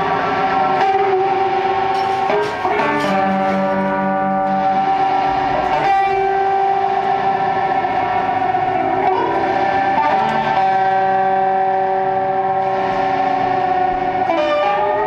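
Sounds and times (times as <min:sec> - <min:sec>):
drone music guitar and keyboard: 0:00.0 - 0:15.0.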